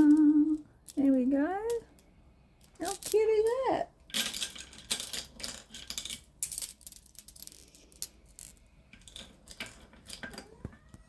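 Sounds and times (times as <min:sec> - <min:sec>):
stones and beads clinking: 0:00.0 - 0:10.4.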